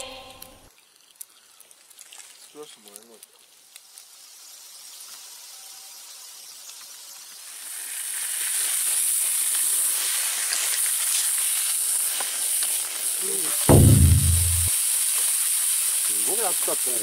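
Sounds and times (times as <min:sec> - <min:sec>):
food sizzling on a grill: 0:00.7 - 0:13.8, 0:14.7 - 0:17.0.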